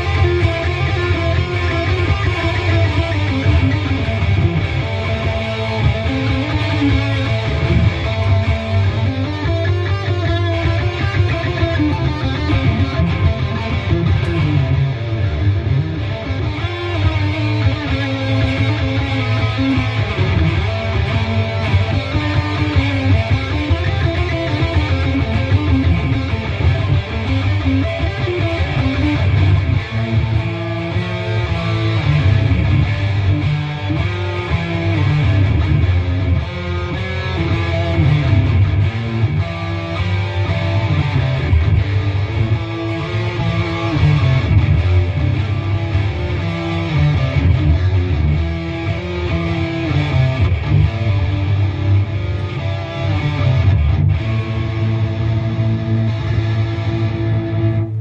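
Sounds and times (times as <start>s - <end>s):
amplified electric guitars: 0.0s - 58.0s
heavy bass line: 0.0s - 58.0s.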